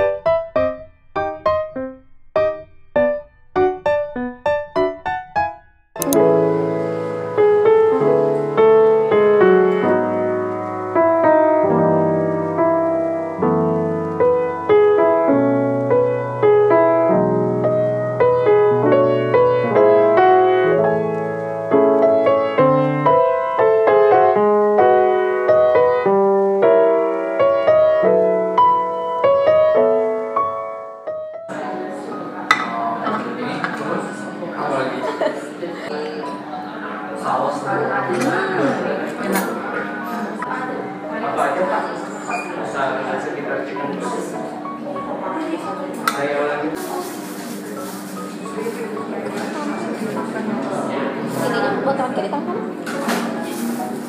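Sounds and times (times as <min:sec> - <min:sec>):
piano music: 0:00.0 - 0:54.0.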